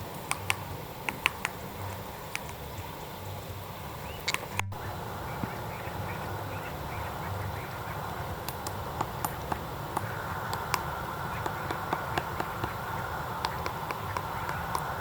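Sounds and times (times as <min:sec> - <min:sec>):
woodpecker tapping on wood: 0:00.1 - 0:02.6, 0:04.1 - 0:06.2, 0:07.6 - 0:15.0.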